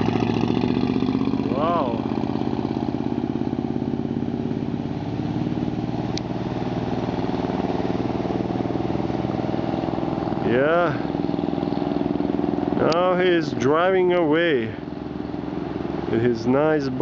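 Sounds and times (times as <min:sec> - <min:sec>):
speedboat engine running hard: 0:00.0 - 0:17.0.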